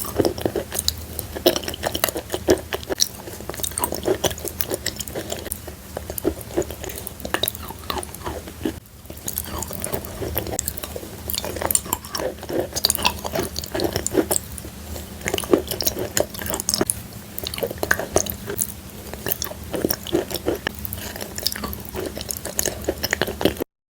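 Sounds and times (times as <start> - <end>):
soft pasty squishes: 0.0 - 23.6.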